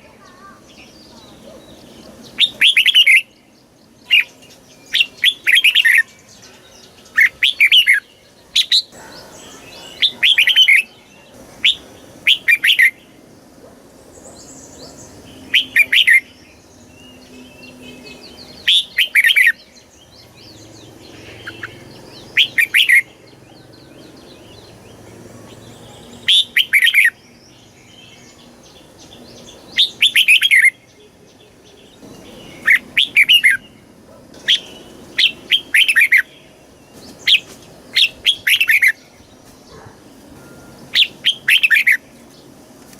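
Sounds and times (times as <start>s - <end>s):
bird singing whistled notes: 0.3s - 13.2s, 14.1s - 33.8s, 34.4s - 39.8s, 40.4s - 42.1s.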